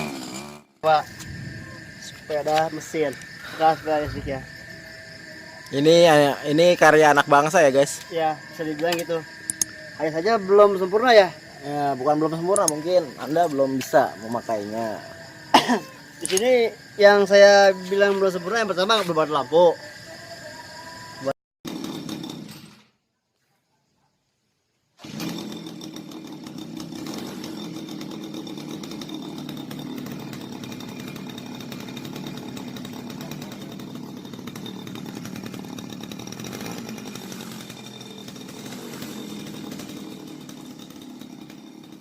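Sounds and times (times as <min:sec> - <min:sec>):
small trimmer engine running: 0:00.0 - 0:17.8, 0:25.0 - 0:42.0.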